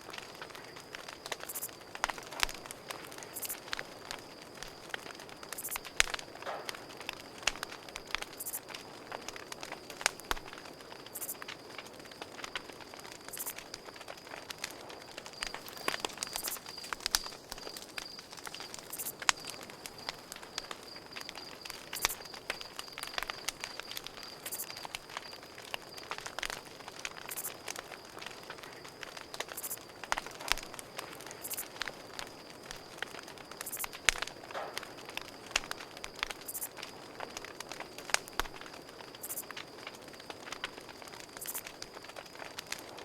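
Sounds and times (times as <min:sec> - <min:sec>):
campfire crackling and popping: 0:00.0 - 0:43.0
crickets trilling: 0:00.0 - 0:43.0.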